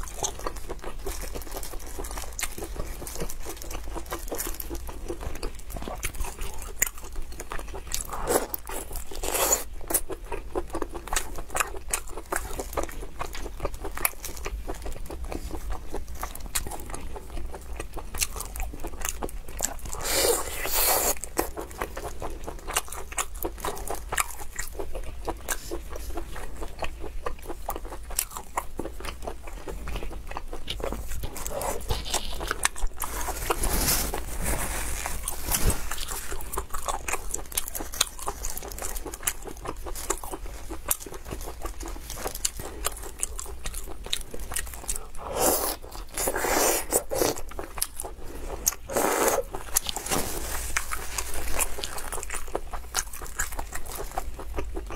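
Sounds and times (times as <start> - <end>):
chewing and biting sausages: 0.0 - 54.9.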